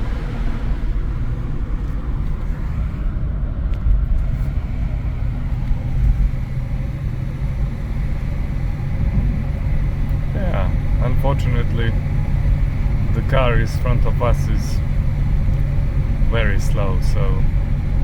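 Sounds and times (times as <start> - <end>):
car engine running: 0.0 - 18.0
road and wind noise: 0.0 - 18.0.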